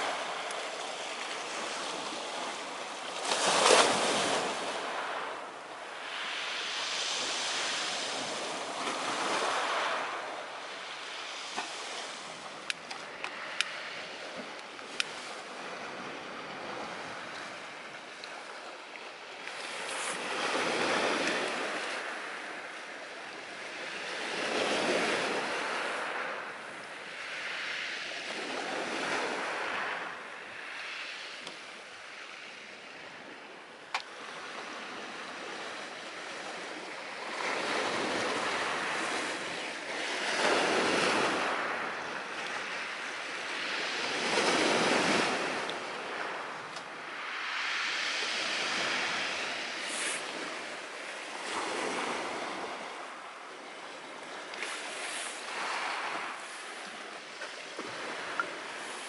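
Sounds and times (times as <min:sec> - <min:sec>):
sea surf washing ashore: 0:00.0 - 0:59.0.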